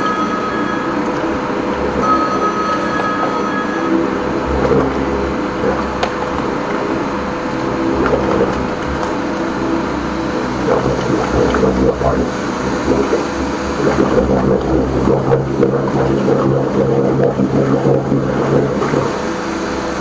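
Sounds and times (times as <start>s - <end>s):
drain jetter pump droning: 0.0s - 20.0s
water rushing: 0.0s - 20.0s.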